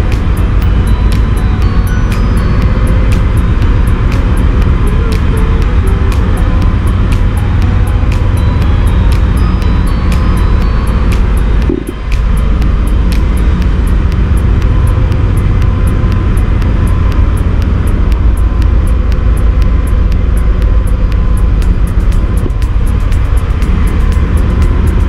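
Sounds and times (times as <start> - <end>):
generator droning: 0.0 - 25.0
light even ticking: 0.0 - 25.0.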